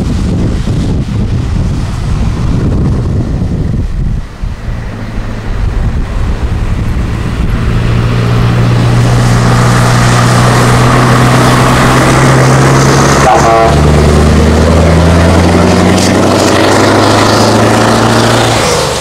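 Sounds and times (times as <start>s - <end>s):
boat engine clattering: 0.0s - 19.0s
wind noise on microphone: 0.0s - 19.0s.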